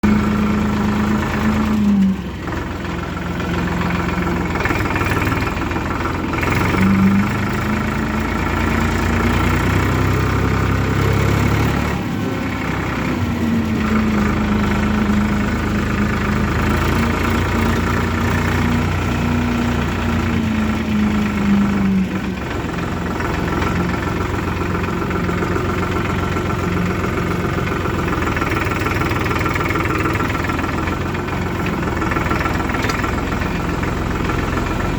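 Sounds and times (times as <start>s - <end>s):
diesel engines revving: 0.0s - 34.9s.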